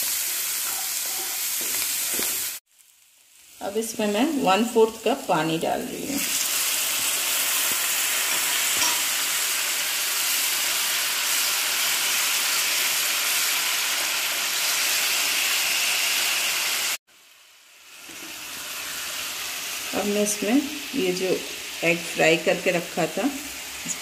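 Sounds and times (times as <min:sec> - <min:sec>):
masala sizzling in oil: 0:00.0 - 0:24.0.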